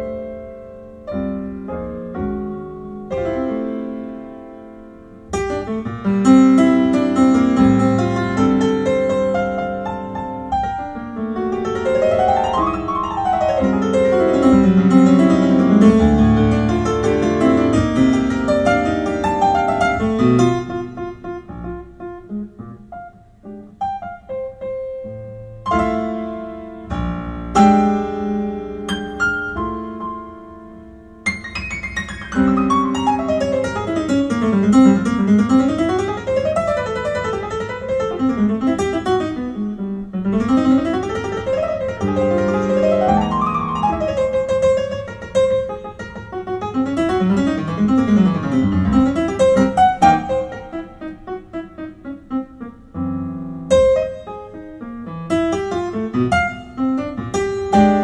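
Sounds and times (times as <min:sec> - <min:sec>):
solo piano: 0:00.0 - 0:58.0.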